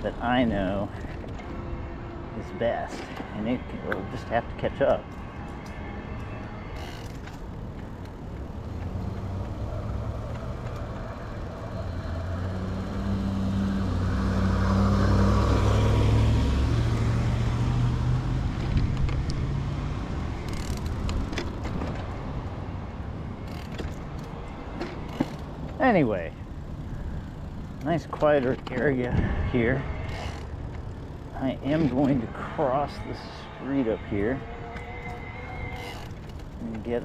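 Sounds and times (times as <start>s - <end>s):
vehicle passing by: 0.0s - 37.0s.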